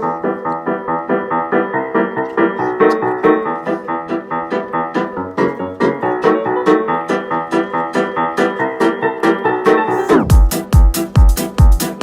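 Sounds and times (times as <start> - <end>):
fast piano tune: 0.0 - 12.0.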